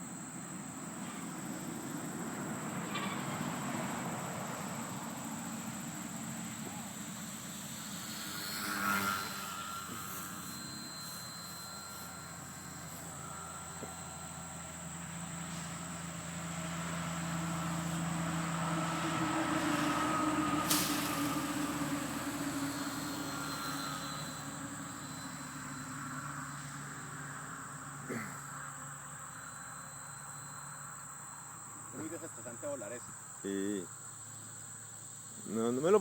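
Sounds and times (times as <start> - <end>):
model airplane motor whine: 0.0 - 33.8.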